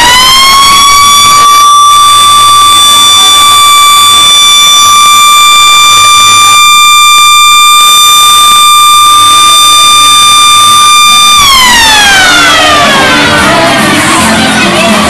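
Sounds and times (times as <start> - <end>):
siren high steady tone: 0.0 - 15.0.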